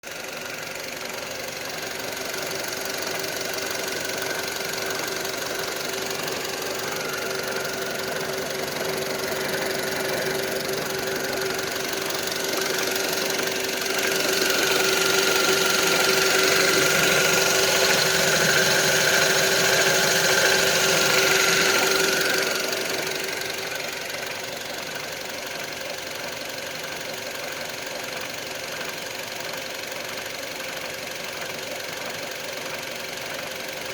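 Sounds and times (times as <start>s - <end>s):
car engine knocking: 0.1s - 33.9s.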